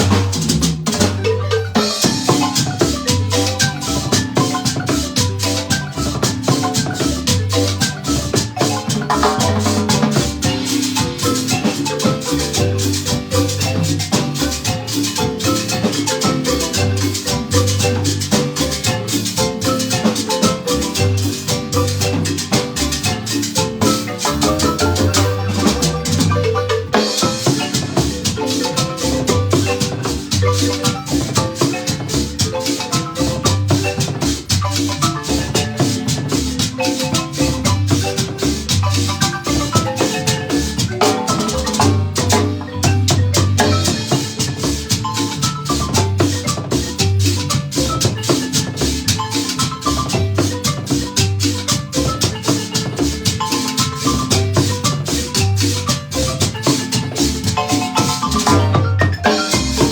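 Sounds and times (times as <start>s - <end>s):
marimba band playing: 0.0s - 59.9s
percussion beat: 0.0s - 59.9s.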